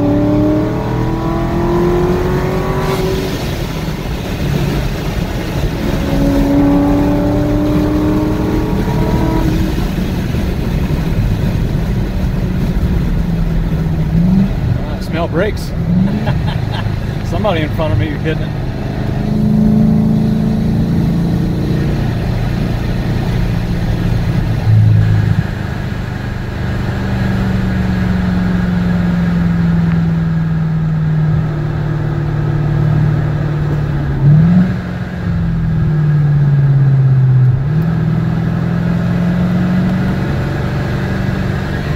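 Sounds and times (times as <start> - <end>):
car engine heard from cabin: 0.0 - 41.9.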